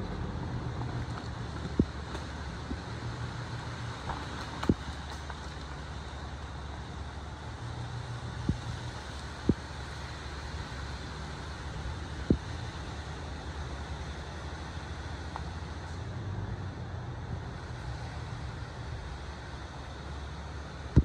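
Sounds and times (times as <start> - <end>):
pickup truck engine rumbling: 0.0 - 21.0.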